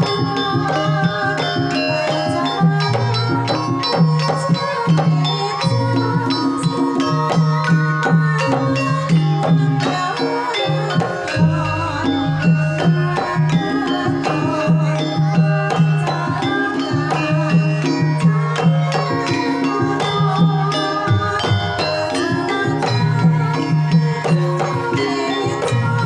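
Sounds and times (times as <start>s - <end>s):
metallophones and gongs ringing: 0.0s - 26.0s.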